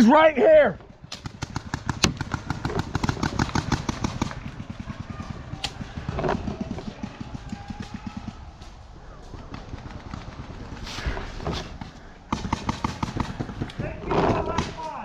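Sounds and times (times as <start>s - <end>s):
paintball gun shots: 1.0s - 8.8s, 9.4s - 15.0s.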